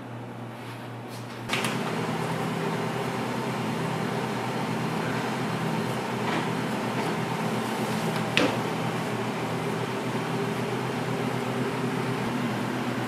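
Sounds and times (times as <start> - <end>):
electric machine humming: 1.5 - 13.0.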